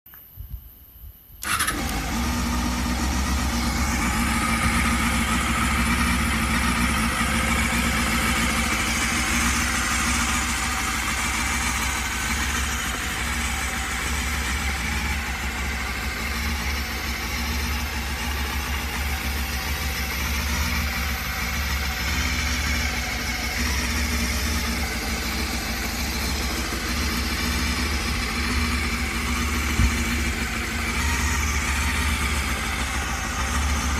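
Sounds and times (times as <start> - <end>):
motorcycle engine idling: 1.4 - 33.9.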